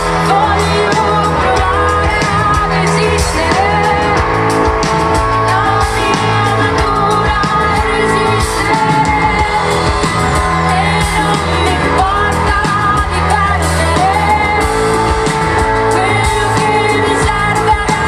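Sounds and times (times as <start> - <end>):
live pop band playing: 0.0 - 18.0
woman singing into microphone: 0.0 - 18.0.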